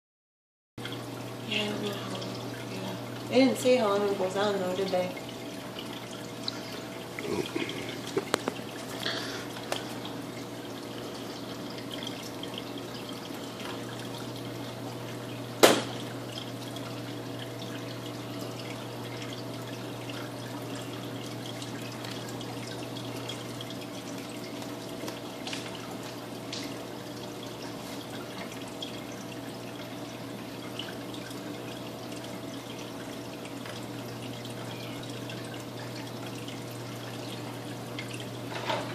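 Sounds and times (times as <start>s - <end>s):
aquarium equipment hum: 0.8s - 38.9s
water trickling and dripping: 0.8s - 38.9s.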